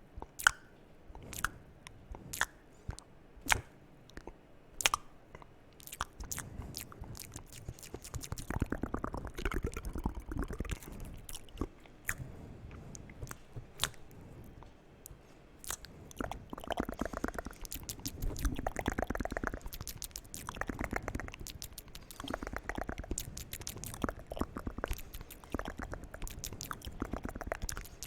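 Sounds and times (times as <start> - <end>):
wet mouth clicks and smacks: 0.2 - 28.0.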